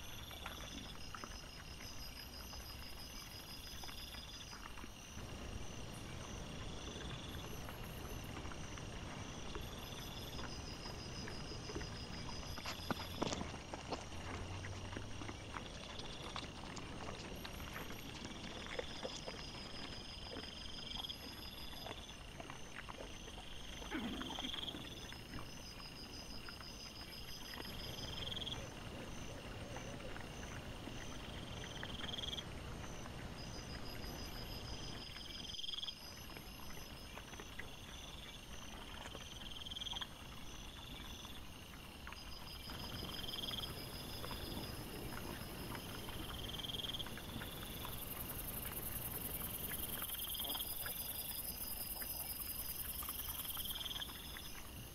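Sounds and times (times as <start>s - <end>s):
insects pulsed ticking: 0.0s - 54.9s
insects trilling: 0.0s - 54.9s.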